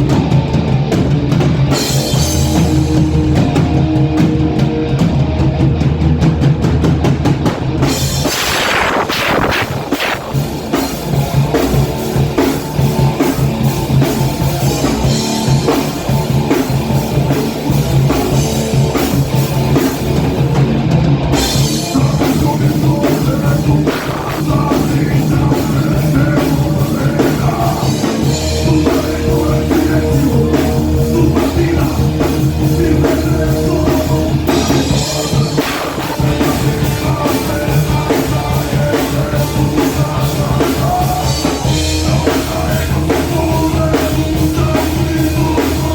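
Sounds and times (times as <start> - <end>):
bass guitar: 0.0 - 45.9
distorted electric guitars: 0.0 - 45.9
pounding drum kit: 0.0 - 45.9.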